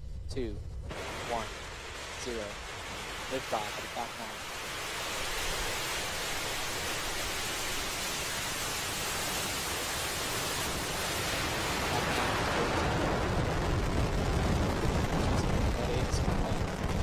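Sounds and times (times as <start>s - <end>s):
deep rumble: 0.0s - 17.0s
rocket engines rushing: 0.2s - 17.0s.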